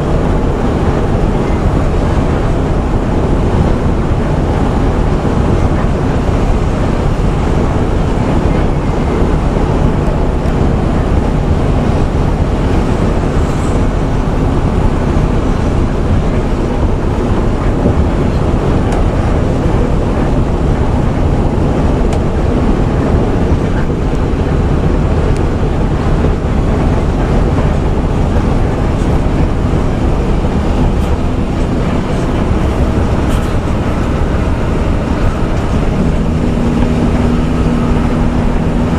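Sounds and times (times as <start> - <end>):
coach engine drone: 0.0 - 38.9
road noise: 0.0 - 38.9.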